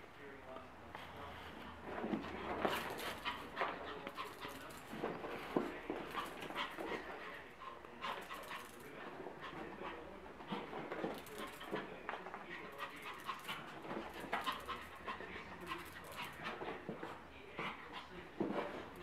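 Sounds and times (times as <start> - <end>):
animals scuffling: 1.0 - 19.0.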